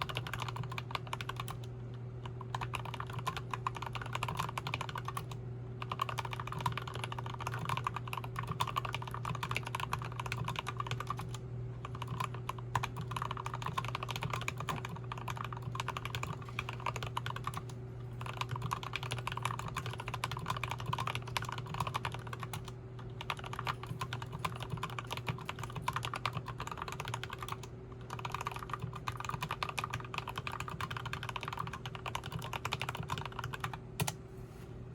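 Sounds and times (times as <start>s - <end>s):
fast typing on mechanical keyboard: 0.0s - 1.7s, 2.3s - 34.2s.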